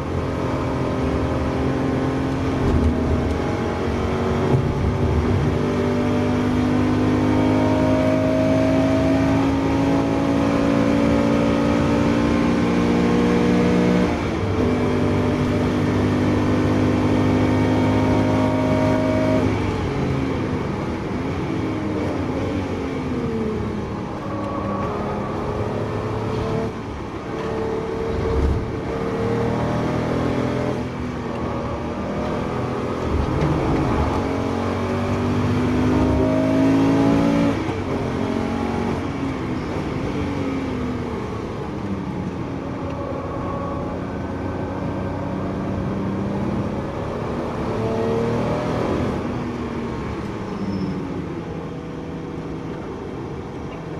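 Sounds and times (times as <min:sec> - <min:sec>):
car engine accelerating and downshifting: 0:00.0 - 0:53.9.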